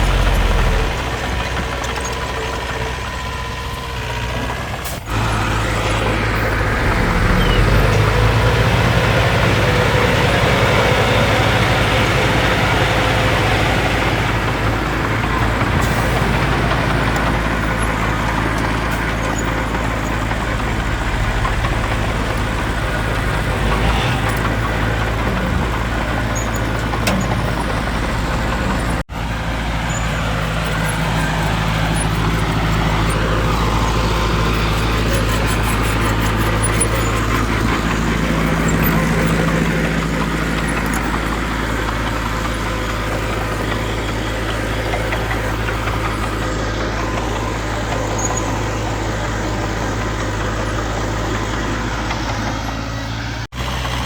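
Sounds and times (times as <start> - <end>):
heavy machinery diesel engines droning: 0.0 - 54.0.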